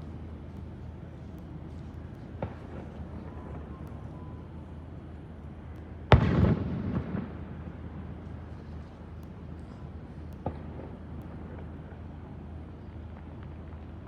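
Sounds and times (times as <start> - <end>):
crackling rumble: 0.0 - 14.0
low background rumble: 0.0 - 14.0.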